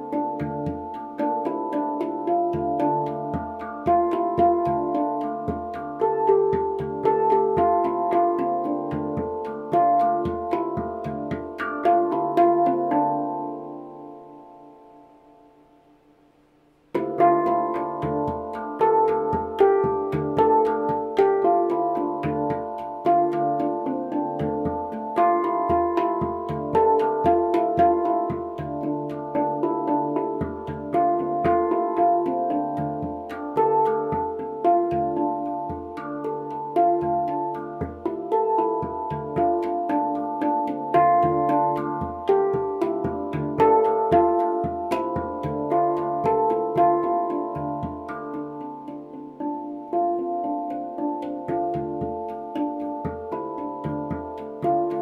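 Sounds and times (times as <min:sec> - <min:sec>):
handpan notes: 0:00.0 - 0:15.9, 0:16.9 - 0:55.0.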